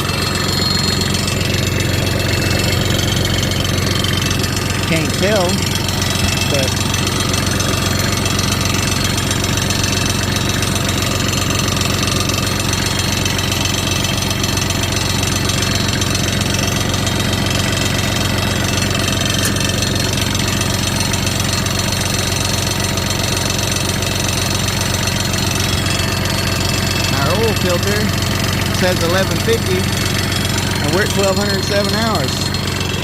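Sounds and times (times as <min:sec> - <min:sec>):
tractor diesel engine idling: 0:00.0 - 0:33.0.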